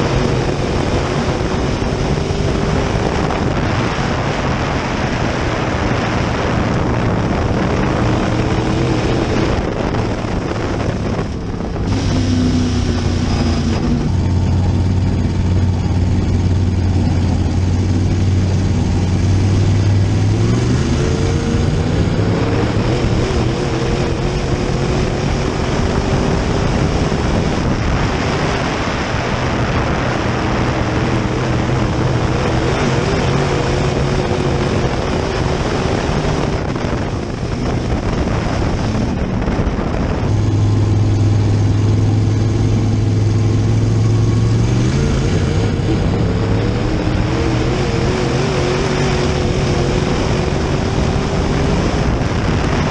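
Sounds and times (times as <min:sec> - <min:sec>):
race car engine accelerating: 0:00.0 - 0:52.9
wind and tyre noise: 0:00.0 - 0:52.9.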